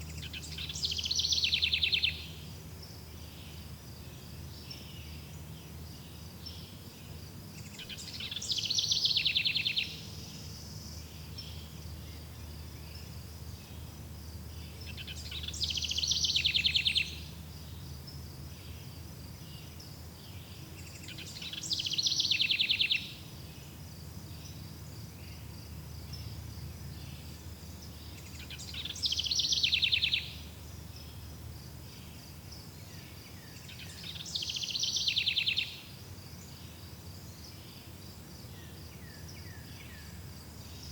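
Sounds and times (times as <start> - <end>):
crickets chirping: 0.0 - 40.9
songbird rapid trill: 0.0 - 40.9.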